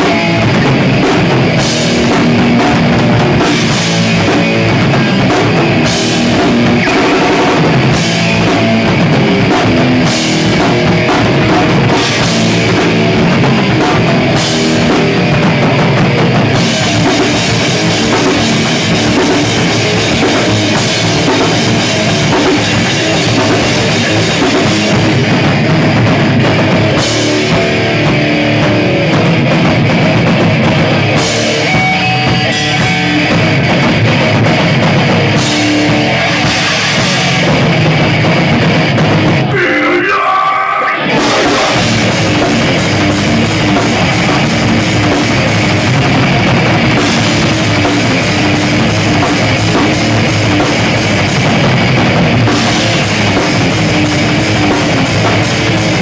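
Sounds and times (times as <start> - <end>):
heavy rock band playing: 0.0 - 56.0.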